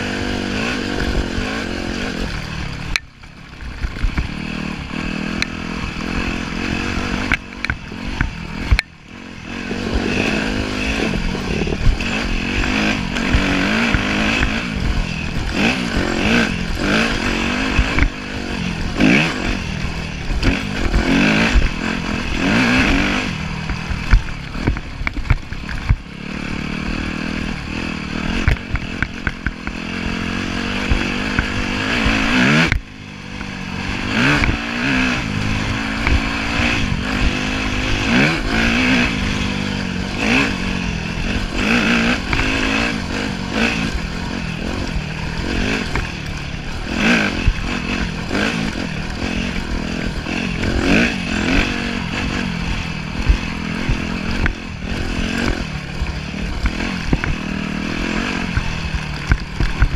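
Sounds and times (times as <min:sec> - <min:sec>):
dirt bike engine revving: 0:00.0 - 0:59.9
bike clatter over rough ground: 0:00.1 - 0:59.9.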